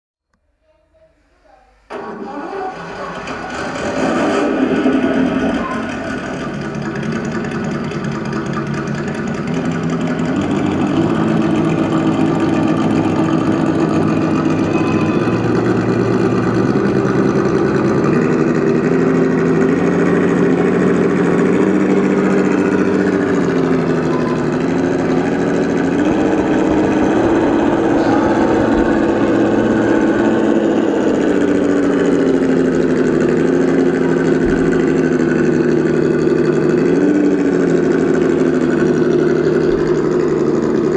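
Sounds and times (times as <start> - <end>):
simulated truck engine from speakers: 1.8 - 40.9.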